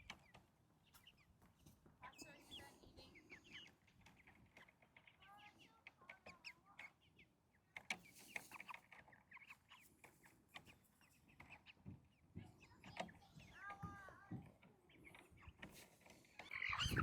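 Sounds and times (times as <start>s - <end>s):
chickens calling and chirping: 0.0s - 17.0s.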